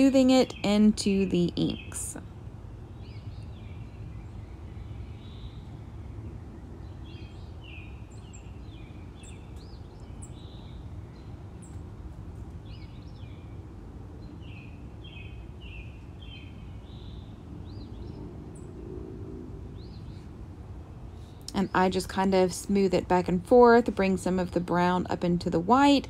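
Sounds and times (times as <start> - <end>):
small birds chirping: 0.0 - 18.9, 19.6 - 20.4, 21.1 - 23.4
low background rumble: 0.0 - 26.0.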